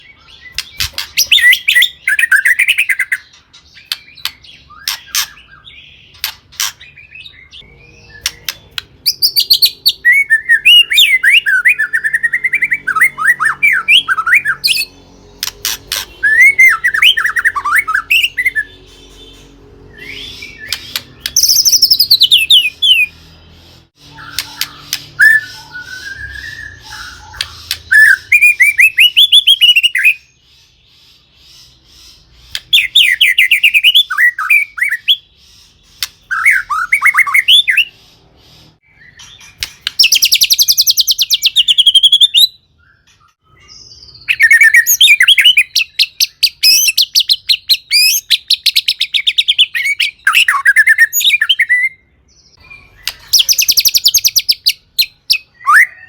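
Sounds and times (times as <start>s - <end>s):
songbird singing whistles and trills: 0.0s - 56.0s.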